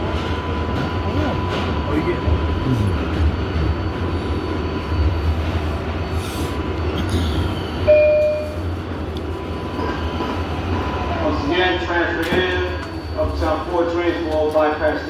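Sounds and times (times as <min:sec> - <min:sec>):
subway car rumbling: 0:00.0 - 0:15.0.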